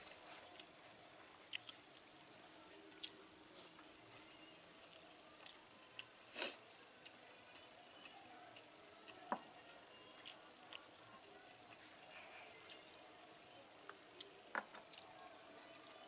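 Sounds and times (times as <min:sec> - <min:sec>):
faint chewing and mouth sounds: 0:00.0 - 0:16.0.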